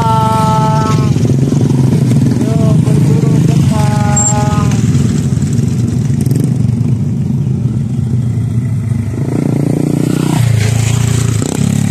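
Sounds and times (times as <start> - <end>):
small motorcycle engine running: 0.0 - 11.9.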